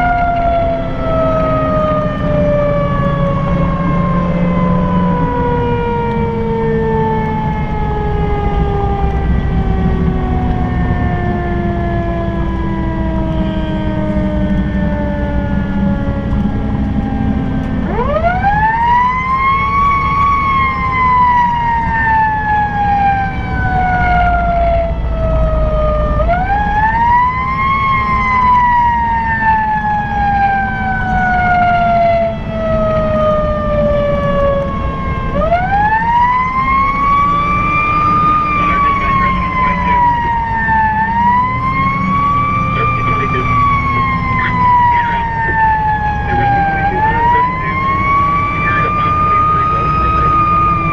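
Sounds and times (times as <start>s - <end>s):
fire engine siren wailing: 0.0s - 50.9s
truck engine and road noise: 0.0s - 50.9s.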